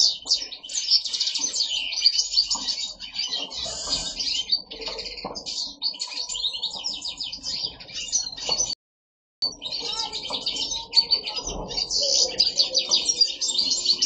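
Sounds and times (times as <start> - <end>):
finches twittering and trilling: 0.0 - 8.8, 9.4 - 14.0.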